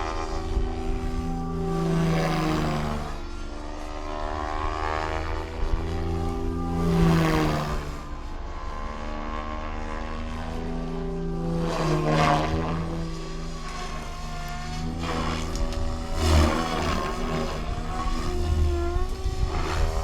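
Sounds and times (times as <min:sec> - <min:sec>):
rc helicopter rotor whine: 0:00.0 - 0:20.0.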